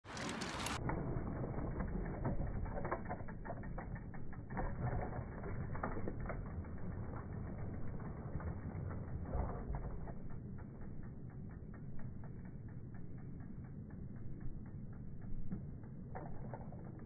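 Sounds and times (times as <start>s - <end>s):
low rumble: 0.0s - 17.0s
bicycle freewheel ticking: 0.1s - 9.4s, 10.0s - 17.0s.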